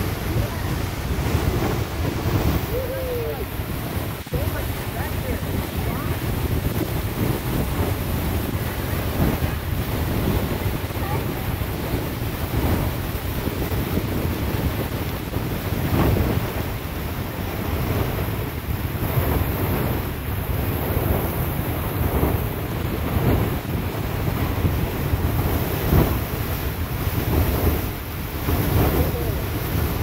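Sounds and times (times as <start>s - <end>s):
geyser water jet rushing: 0.0s - 30.0s
wind buffeting microphone: 0.0s - 30.0s.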